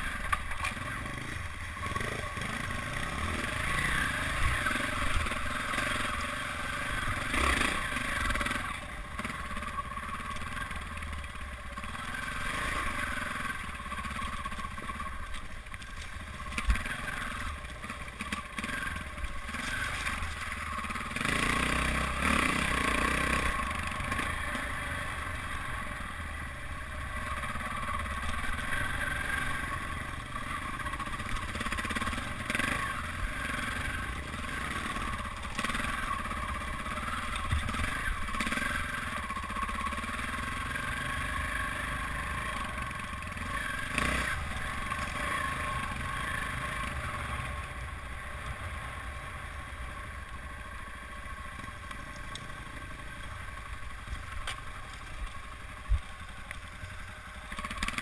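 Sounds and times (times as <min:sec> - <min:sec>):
dirt bike engine revving: 0:00.0 - 0:15.2, 0:16.2 - 0:47.7, 0:57.2 - 0:58.0.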